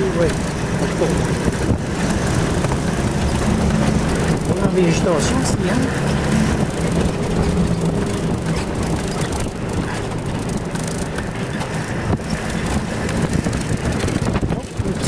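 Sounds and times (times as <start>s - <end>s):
knocks and rattles: 0.0s - 15.0s
vehicle engine and road noise: 0.0s - 15.0s.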